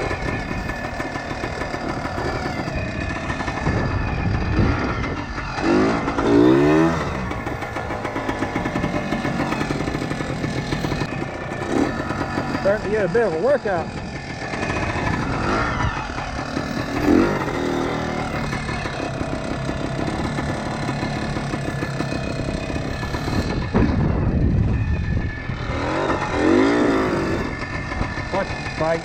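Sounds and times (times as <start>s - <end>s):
two-stroke motorcycle engine revving: 0.0s - 29.0s.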